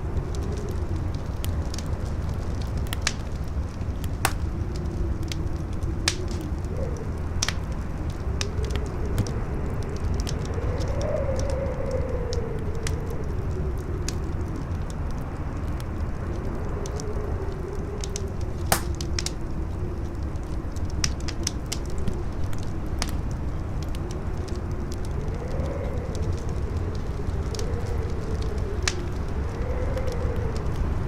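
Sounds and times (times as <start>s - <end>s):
fire crackling and popping: 0.0s - 31.0s
howling wind: 0.0s - 31.0s.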